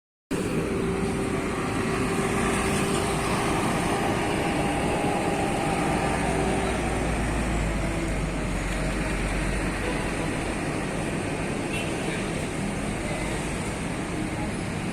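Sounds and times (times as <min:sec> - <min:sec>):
street traffic passing: 0:00.3 - 0:14.9.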